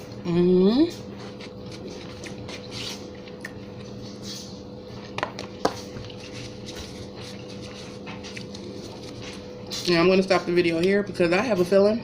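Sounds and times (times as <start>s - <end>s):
mouth and plate eating noises: 0.0s - 9.9s
steady low hum: 0.0s - 12.0s.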